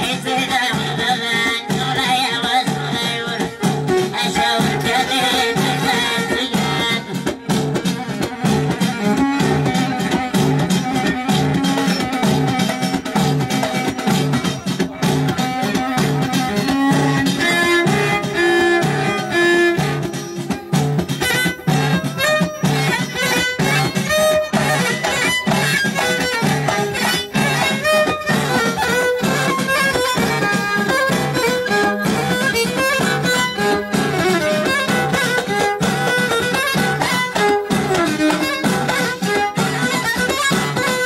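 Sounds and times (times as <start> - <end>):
hand-struck frame drums: 0.0 - 41.0
violin melody: 1.0 - 41.0.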